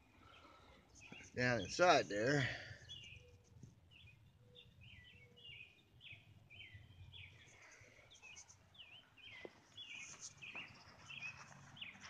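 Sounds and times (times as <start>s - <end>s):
bird chirping: 0.0s - 12.0s
outdoor background noise: 0.0s - 12.0s.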